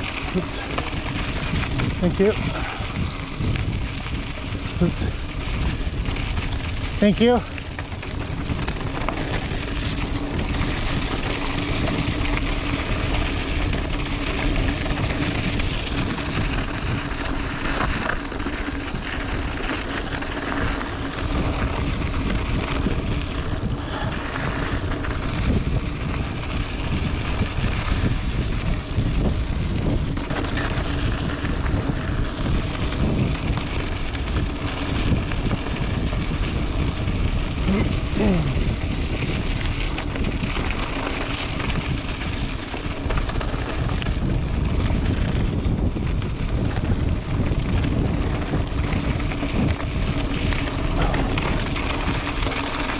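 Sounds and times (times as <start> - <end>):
bike tyres rumbling on dirt: 0.0 - 52.9
wind buffeting microphone: 0.0 - 52.9.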